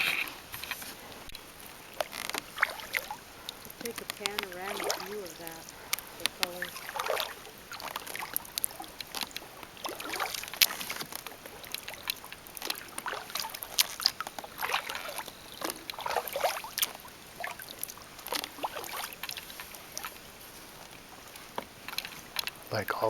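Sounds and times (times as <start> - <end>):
kayak paddle splashing: 0.0 - 23.0
water drips: 1.1 - 23.0.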